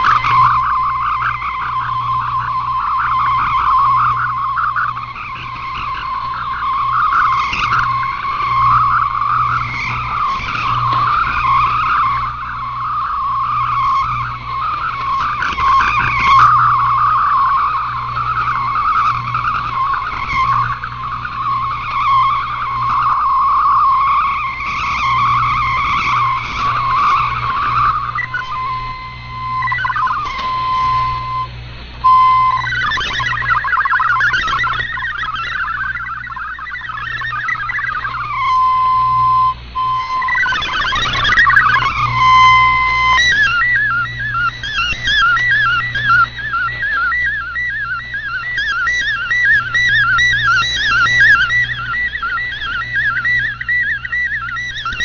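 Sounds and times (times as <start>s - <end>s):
low hum: 0.0s - 55.0s
radio band hiss: 0.0s - 55.0s
steady tones: 0.0s - 55.0s
warbling digital data signal: 0.0s - 55.0s.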